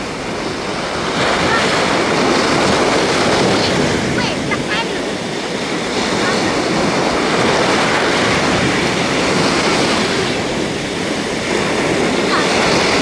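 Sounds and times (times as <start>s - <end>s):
sea waves washing onto beach: 0.0s - 13.0s.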